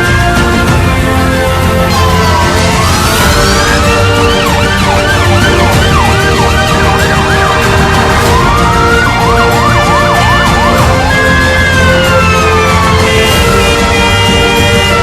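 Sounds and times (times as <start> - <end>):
background music: 0.0 - 15.0
emergency vehicle siren: 0.0 - 15.0.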